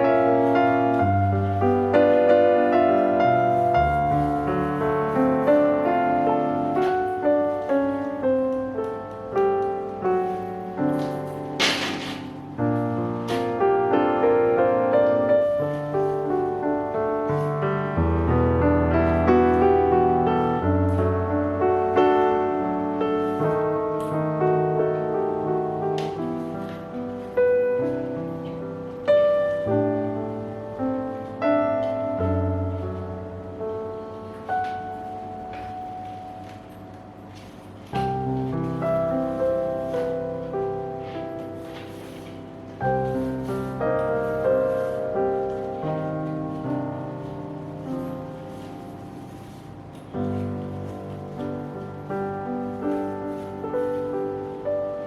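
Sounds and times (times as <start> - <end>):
soft solo piano: 0.0 - 55.0.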